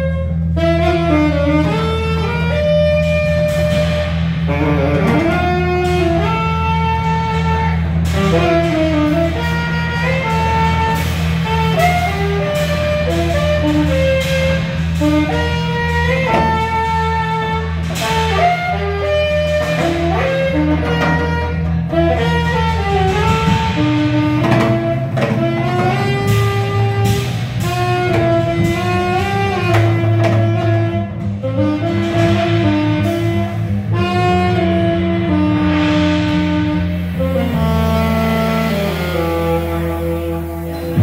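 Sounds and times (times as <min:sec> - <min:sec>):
saxophone solo: 0:00.0 - 0:41.0
upright bass line: 0:00.0 - 0:41.0.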